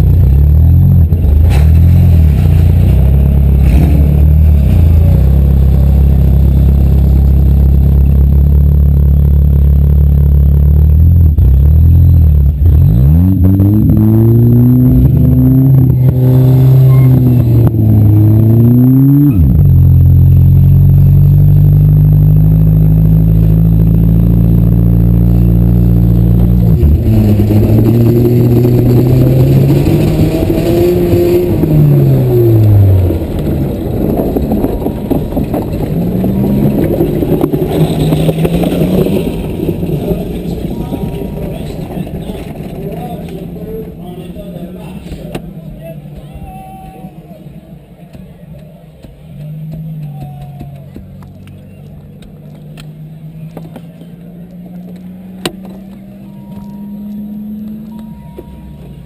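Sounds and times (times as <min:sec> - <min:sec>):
car engine running loud: 0:00.0 - 0:59.0.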